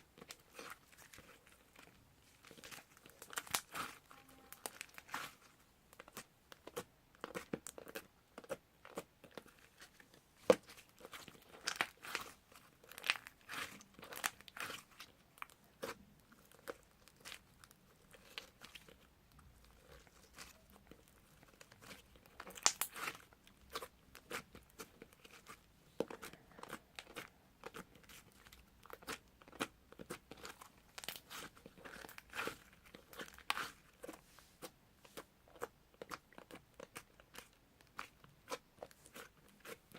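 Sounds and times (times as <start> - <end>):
slime squished by hand: 0.2 - 39.9.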